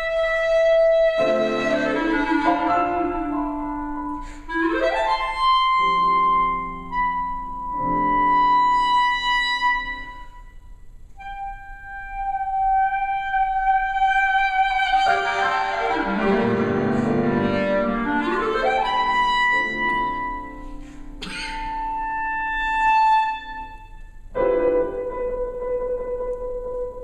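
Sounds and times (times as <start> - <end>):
piano chords and runs: 0.0 - 22.4
clarinet sustained notes: 0.0 - 27.0.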